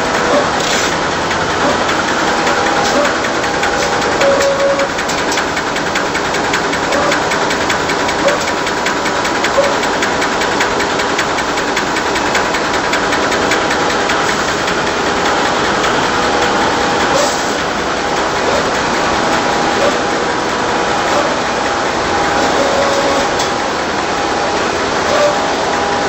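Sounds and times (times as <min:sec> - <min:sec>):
machine clatter with rapid ticking: 0:00.0 - 0:26.0.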